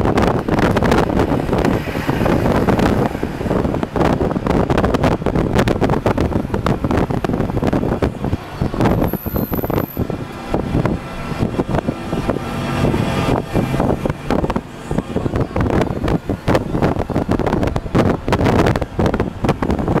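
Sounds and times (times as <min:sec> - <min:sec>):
car road and engine noise: 0:00.0 - 0:20.0
wind buffeting microphone: 0:00.0 - 0:20.0.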